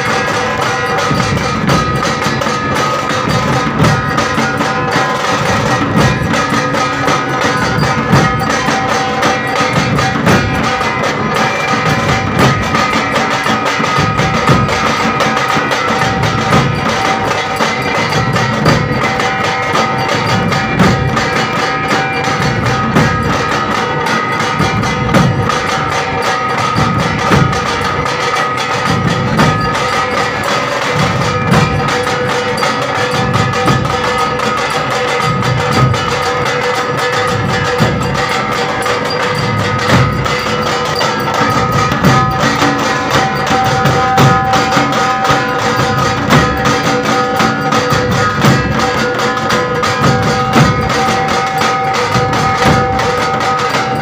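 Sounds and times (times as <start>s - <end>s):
barrel drums beating: 0.0s - 54.0s
steady high tones: 0.0s - 54.0s.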